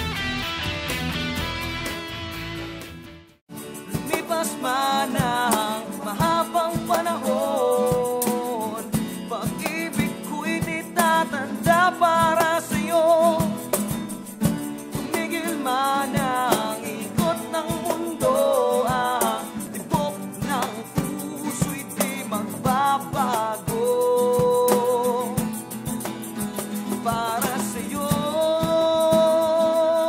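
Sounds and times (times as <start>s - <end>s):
instrumental backing with beat: 0.0s - 30.0s
man singing with vibrato: 3.6s - 14.0s, 14.7s - 25.8s, 26.6s - 30.0s.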